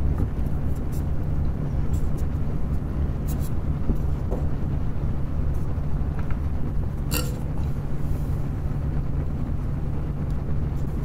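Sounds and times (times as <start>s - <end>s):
pc fans humming: 0.0s - 11.0s.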